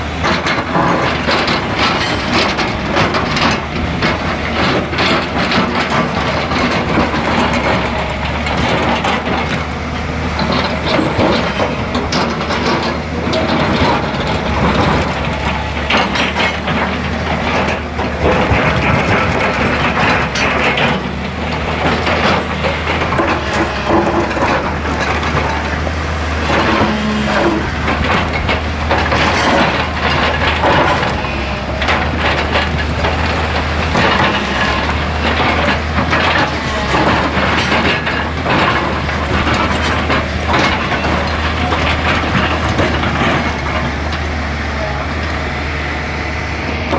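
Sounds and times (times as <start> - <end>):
excavator engine droning: 0.0 - 46.9.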